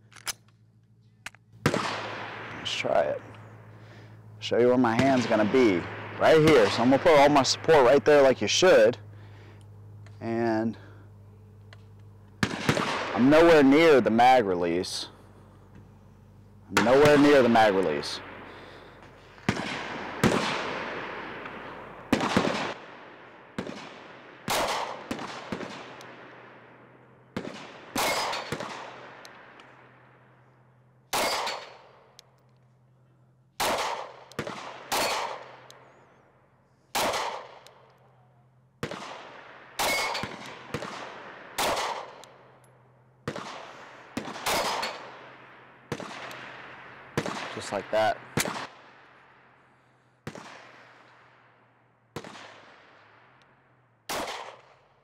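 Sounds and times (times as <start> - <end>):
pistol shots with echo: 1.6 - 3.9, 4.5 - 9.8, 12.0 - 15.1, 16.7 - 30.4, 31.1 - 32.2, 33.6 - 36.0, 36.9 - 38.2, 38.8 - 49.4, 50.2 - 55.0.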